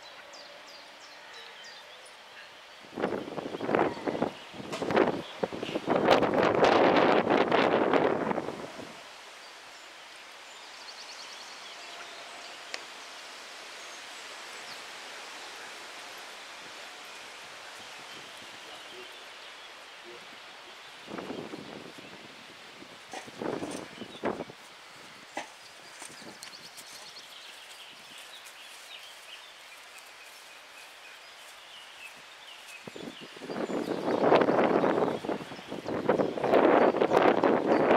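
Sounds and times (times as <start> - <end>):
wind rustling leaves: 0.0 - 37.9.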